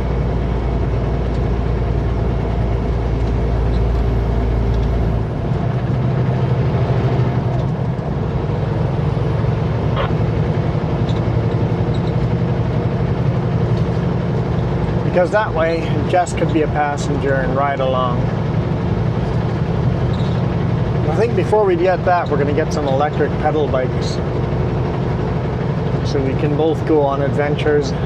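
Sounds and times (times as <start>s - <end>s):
truck diesel engine drone: 0.0s - 28.0s.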